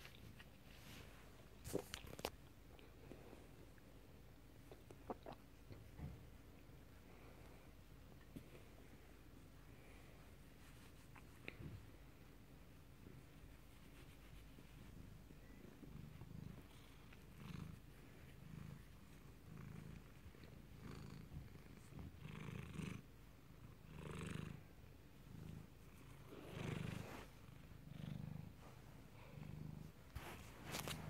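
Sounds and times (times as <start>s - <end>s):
cat purring: 4.6s - 31.0s.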